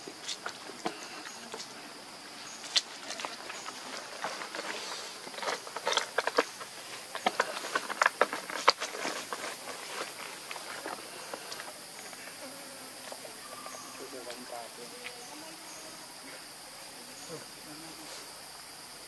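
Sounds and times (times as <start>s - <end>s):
monkeys scrambling on concrete and leaves: 0.0s - 18.9s
insects hissing: 0.0s - 19.0s.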